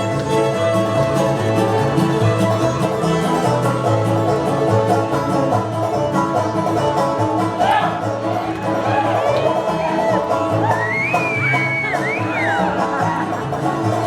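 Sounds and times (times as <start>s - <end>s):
acoustic string band playing: 0.0s - 14.0s
banjo: 0.0s - 14.0s
bass line: 0.0s - 14.0s
fiddle: 0.0s - 14.0s.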